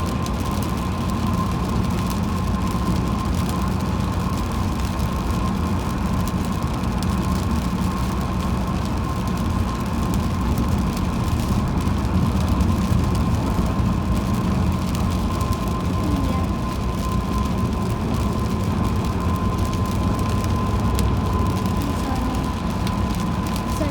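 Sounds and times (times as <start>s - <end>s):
car driving on wet road: 0.0s - 23.9s.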